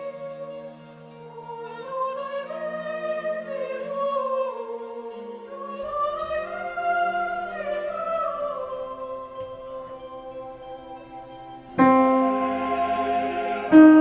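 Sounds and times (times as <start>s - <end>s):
choir singing: 1.2s - 14.0s.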